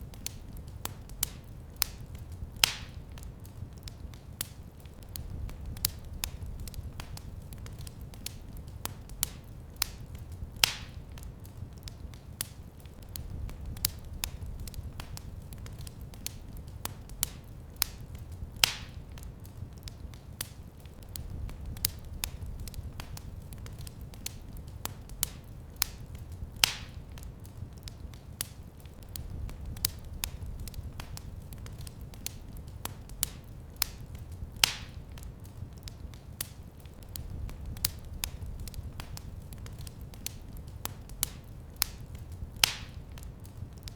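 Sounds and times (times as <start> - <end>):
low rumble of flames: 0.0 - 43.9
wood fire crackling: 0.0 - 43.9.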